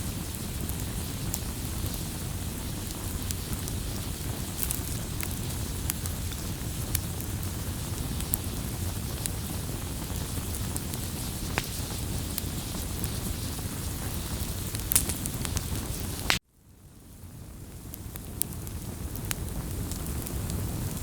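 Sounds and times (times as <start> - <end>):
campfire hissing and rumbling: 0.0 - 21.0
fire crackles and pops: 0.0 - 21.0.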